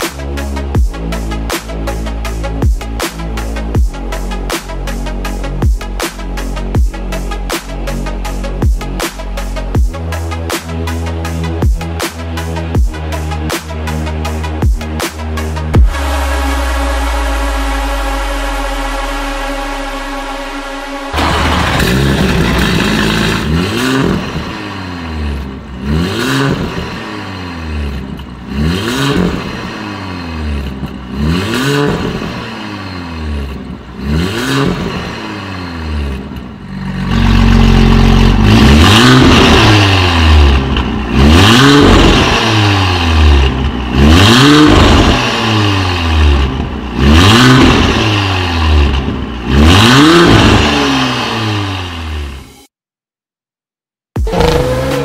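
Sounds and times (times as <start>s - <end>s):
car engine revving: 0.0s - 52.7s, 54.2s - 55.0s.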